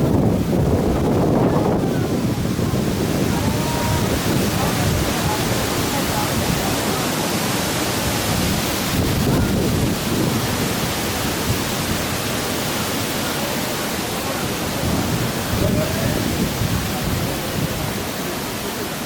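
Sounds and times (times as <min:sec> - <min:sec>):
strong wind on microphone: 0:00.0 - 0:18.7.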